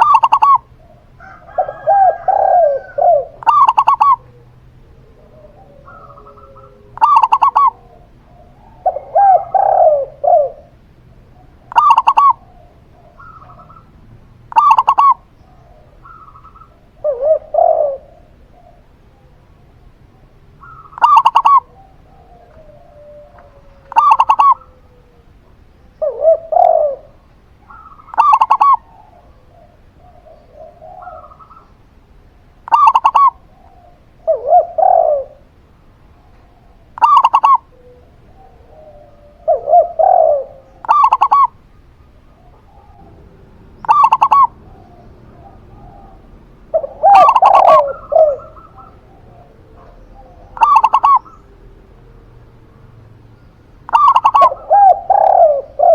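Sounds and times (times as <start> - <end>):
dove short bright coos: 0.0 - 19.3, 20.6 - 25.3, 25.9 - 31.8, 32.7 - 35.5, 36.2 - 41.6, 43.8 - 51.6, 53.9 - 55.9
dove lower longer coos: 0.0 - 55.9.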